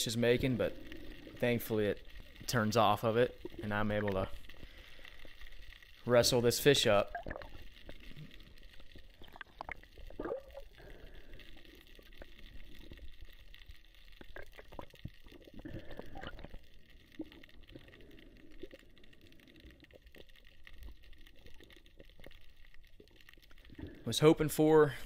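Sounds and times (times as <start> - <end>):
muffled underwater water movement: 0.0 - 25.0.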